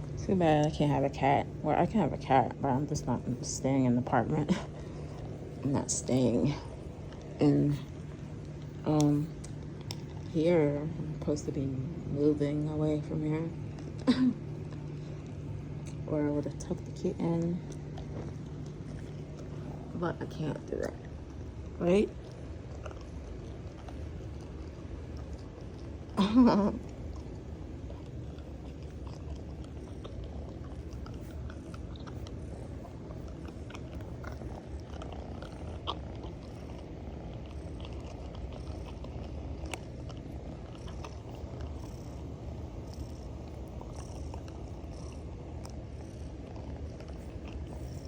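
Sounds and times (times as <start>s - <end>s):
cat purring: 0.0s - 48.0s.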